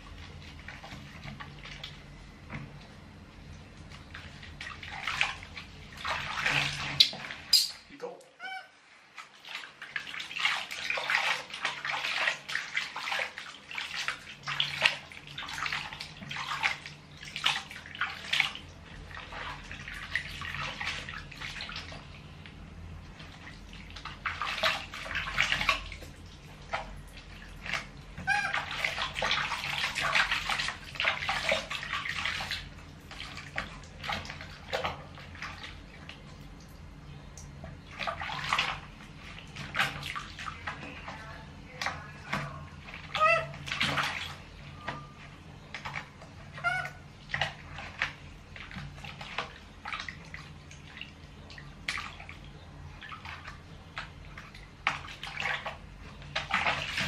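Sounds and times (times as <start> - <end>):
water splashing in a basin: 0.0 - 3.0, 3.6 - 8.4, 9.0 - 57.0.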